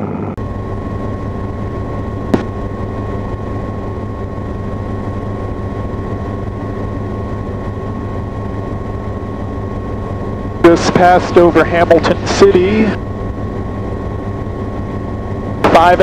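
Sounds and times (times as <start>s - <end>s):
helicopter engine and rotors droning: 0.0s - 16.0s
thin high whine: 0.4s - 16.0s.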